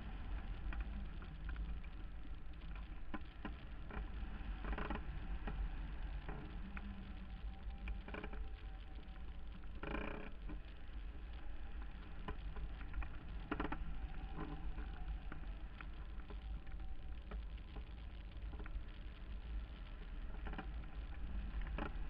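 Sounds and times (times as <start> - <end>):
small ticks and rattles: 0.0 - 22.0.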